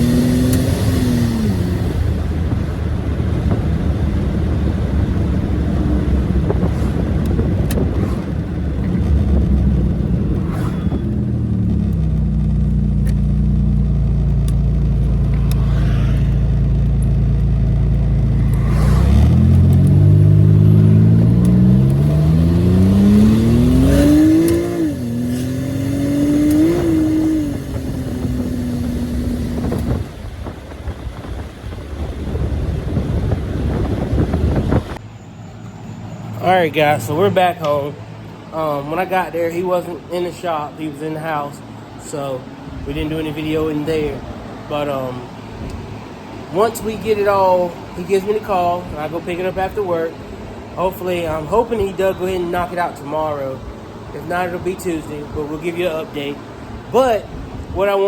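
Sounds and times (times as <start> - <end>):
car engine accelerating: 0.0 - 57.8.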